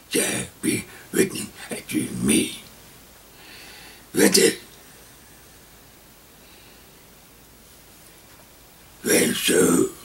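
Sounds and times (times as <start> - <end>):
faint recording hiss: 0.0 - 10.0.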